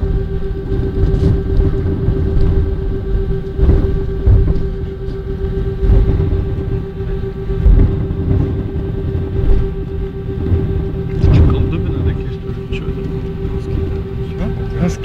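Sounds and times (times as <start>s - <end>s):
jet engines roaring on takeoff: 0.0s - 15.0s.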